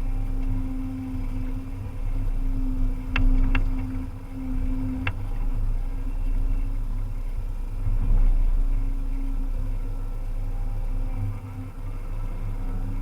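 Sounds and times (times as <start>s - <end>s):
excavator engine rumbling: 0.0s - 13.0s.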